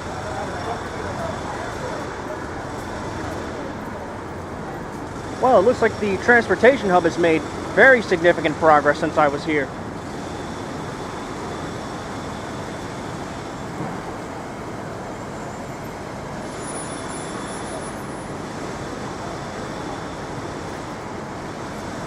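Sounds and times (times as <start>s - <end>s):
city street traffic: 0.0s - 22.0s.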